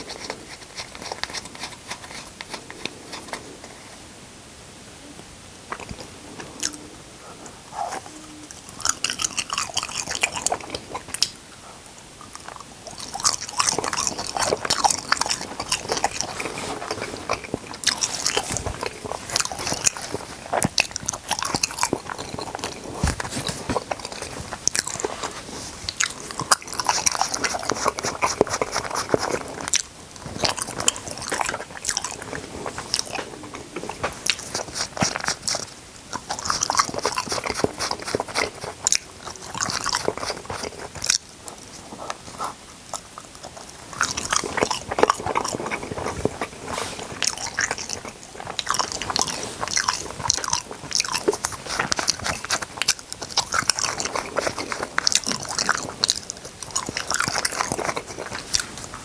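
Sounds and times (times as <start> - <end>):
food being bitten and chewed: 0.0 - 3.8, 5.7 - 7.0, 7.7 - 59.0.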